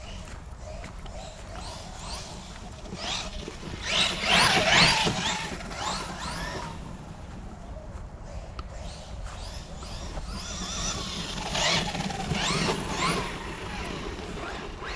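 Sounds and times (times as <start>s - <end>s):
rc truck electric motor whining: 1.2s - 7.2s, 8.7s - 14.9s.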